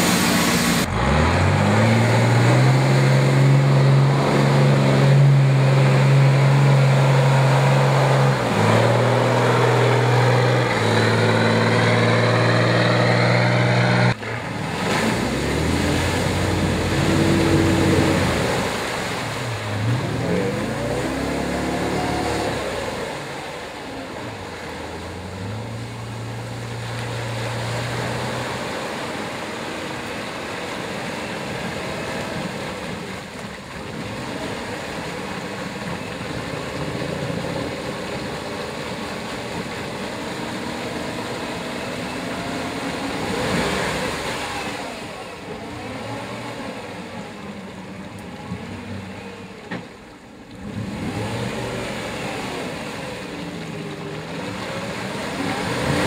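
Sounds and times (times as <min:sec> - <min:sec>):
off-road vehicle engine under load: 0:00.0 - 0:56.0
water churning and splashing: 0:00.0 - 0:56.0.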